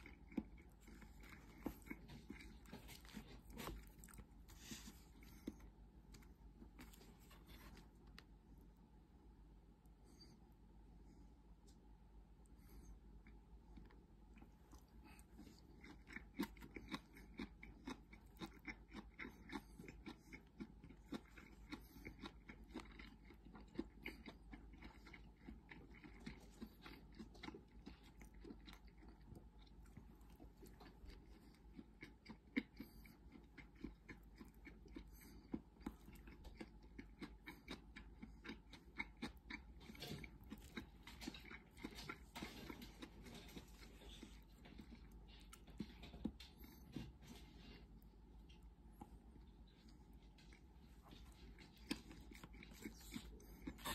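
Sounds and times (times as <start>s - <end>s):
person chewing: 0.0s - 8.4s, 12.5s - 53.9s.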